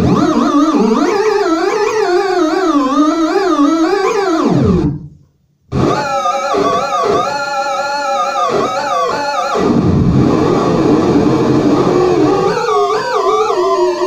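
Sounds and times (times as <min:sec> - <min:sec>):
warbling synthesizer tones: 0:00.0 - 0:05.1, 0:05.7 - 0:14.0.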